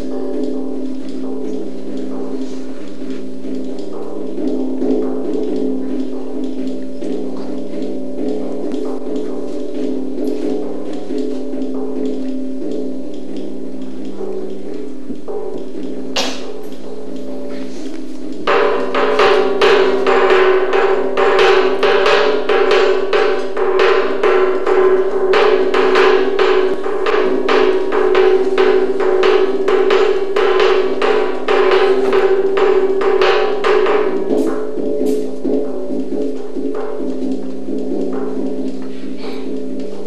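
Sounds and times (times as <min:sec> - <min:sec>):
rapid percussion strikes: 0:00.0 - 0:40.0.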